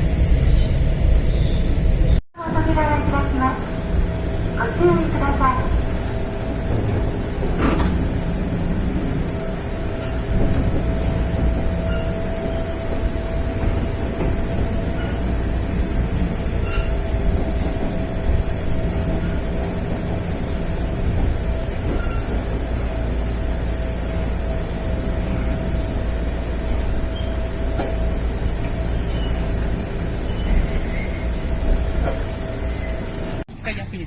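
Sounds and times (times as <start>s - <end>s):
electric train whine: 0.0s - 34.0s
train wheels rumbling on rail: 0.0s - 34.0s.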